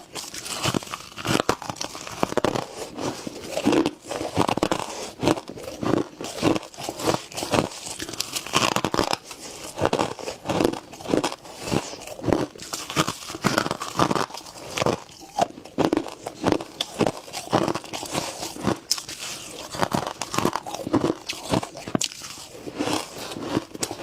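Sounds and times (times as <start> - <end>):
crunching frost being chewed: 0.0 - 24.0.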